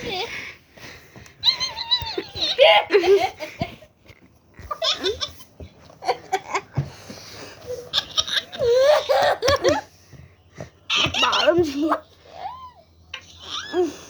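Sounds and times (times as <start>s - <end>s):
kids giggling and laughing: 0.0s - 0.5s, 1.4s - 10.0s, 10.9s - 14.0s.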